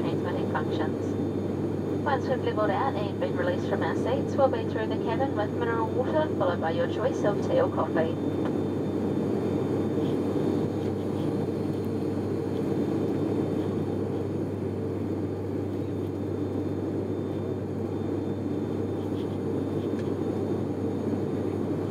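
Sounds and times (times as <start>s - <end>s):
airplane cabin engine drone: 0.0s - 21.9s.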